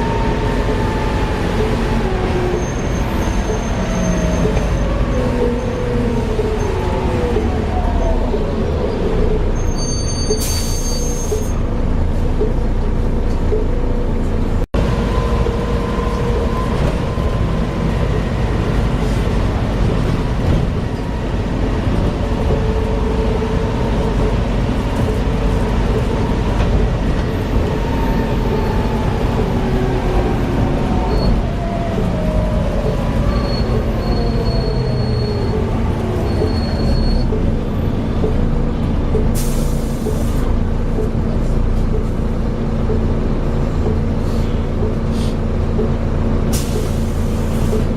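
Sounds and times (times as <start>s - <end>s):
bus drivetrain rumble: 0.0s - 47.9s.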